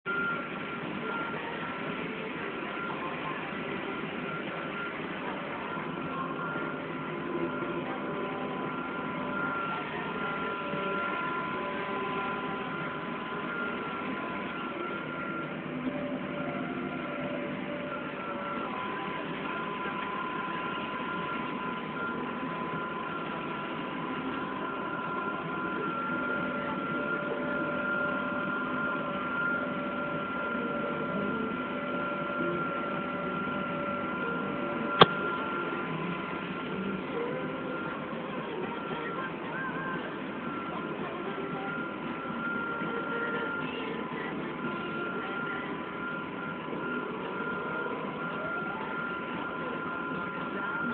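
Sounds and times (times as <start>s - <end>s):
high whine: 0.0s - 50.9s.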